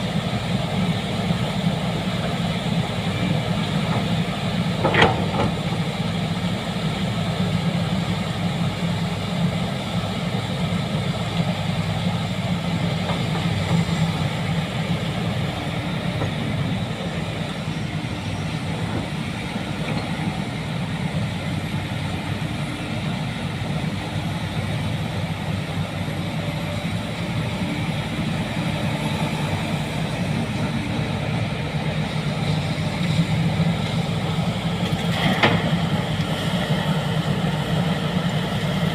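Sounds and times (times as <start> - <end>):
heavy diesel machinery rumble: 0.0 - 38.9.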